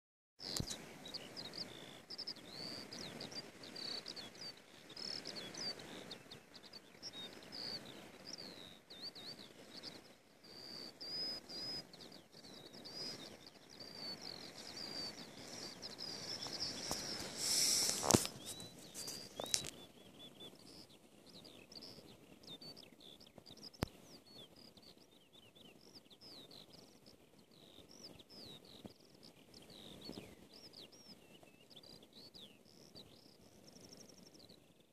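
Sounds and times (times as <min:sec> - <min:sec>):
skylark singing: 0:00.4 - 0:34.8.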